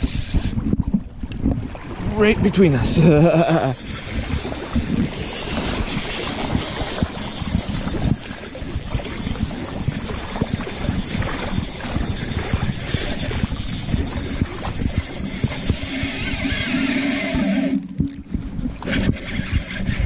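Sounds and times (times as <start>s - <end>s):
flowing river water: 0.0s - 20.0s
wind buffeting microphone: 0.0s - 20.0s.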